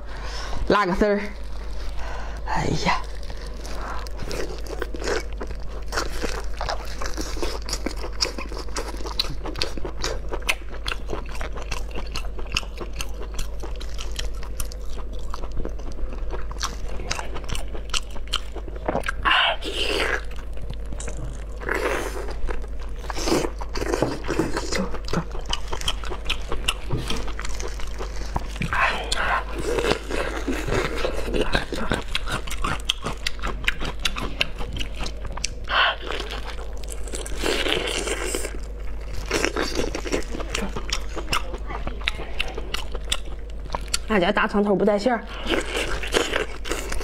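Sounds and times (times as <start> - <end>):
wet chewing: 1.0 - 44.2, 45.3 - 47.0.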